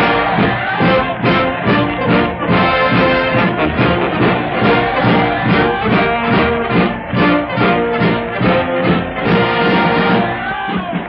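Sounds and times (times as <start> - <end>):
trombone: 0.0 - 10.5
swing brass band music: 0.0 - 11.0
trumpet: 0.0 - 11.0.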